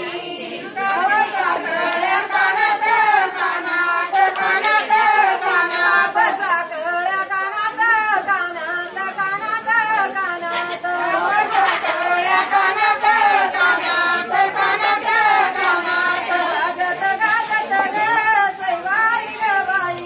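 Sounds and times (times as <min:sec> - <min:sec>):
women singing unaccompanied: 0:00.0 - 0:20.0.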